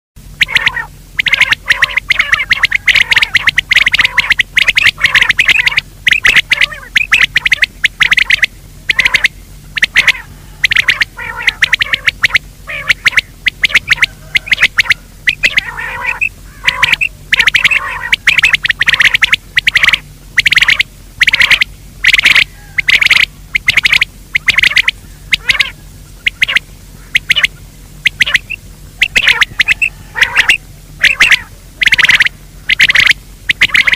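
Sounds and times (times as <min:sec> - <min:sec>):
low steady hum: 0:00.2 - 0:33.9
game bird calling harshly: 0:00.4 - 0:33.9.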